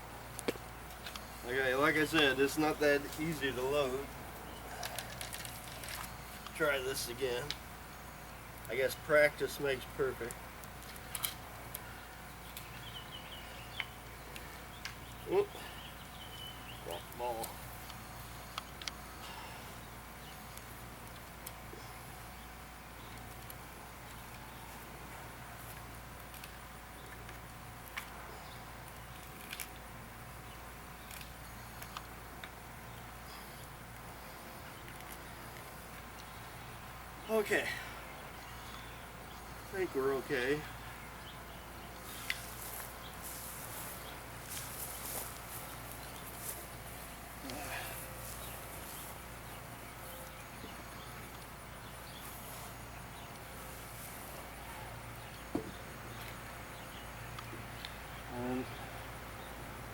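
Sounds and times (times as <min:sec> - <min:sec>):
low background hum: 0:00.0 - 0:59.9.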